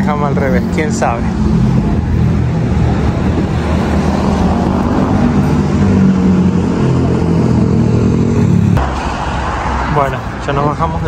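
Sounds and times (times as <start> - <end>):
vehicle engine running: 0.0 - 8.9
traffic and road noise: 0.0 - 11.0.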